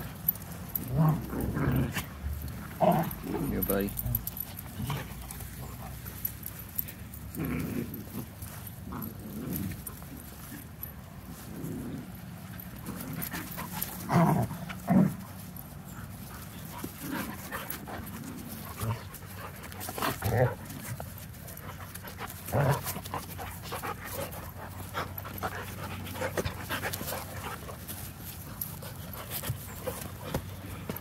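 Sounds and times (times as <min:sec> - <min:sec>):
puppies playing: 0:00.0 - 0:31.0.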